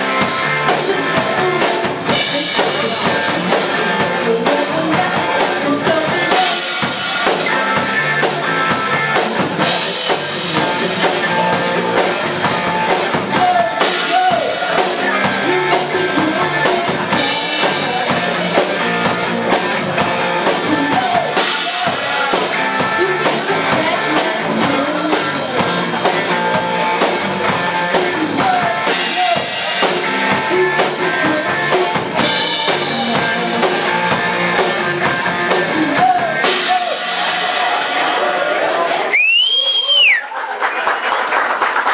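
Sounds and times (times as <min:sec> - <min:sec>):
bass drum and snare beat: 0:00.0 - 0:37.8
rock band playing: 0:00.0 - 0:40.2.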